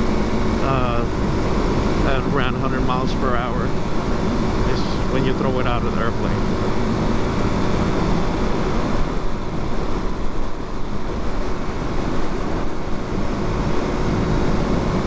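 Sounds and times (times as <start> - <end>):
motorcycle engine drone: 0.0 - 15.0
wind rush: 0.0 - 15.0.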